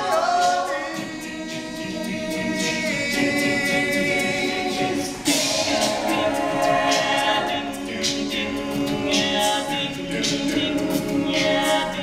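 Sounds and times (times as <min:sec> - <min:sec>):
male a cappella group singing: 0:00.0 - 0:12.0.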